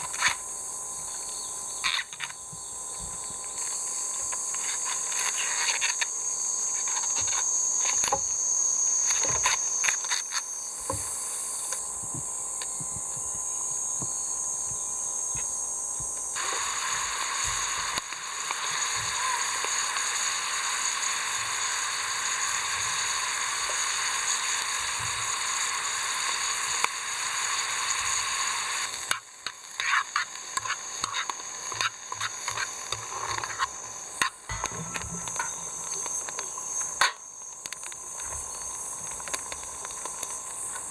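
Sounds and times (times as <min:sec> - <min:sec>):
insects shrilling: 0:00.0 - 0:40.9.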